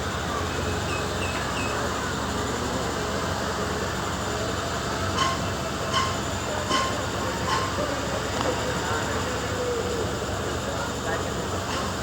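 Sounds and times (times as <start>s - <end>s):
train rumbling into station: 0.0s - 12.0s.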